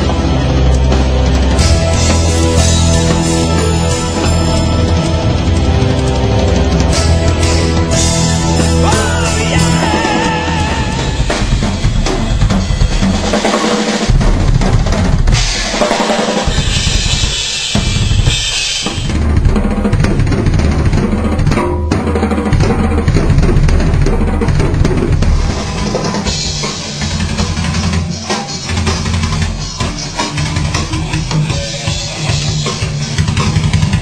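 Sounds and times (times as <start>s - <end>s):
heavy metal music: 0.0s - 34.0s
rock drum kit playing hard: 0.0s - 34.0s.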